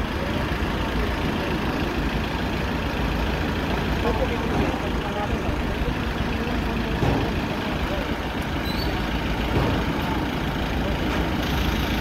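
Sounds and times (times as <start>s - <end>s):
people's voices: 0.0s - 12.0s
tractor engine running: 0.0s - 12.0s.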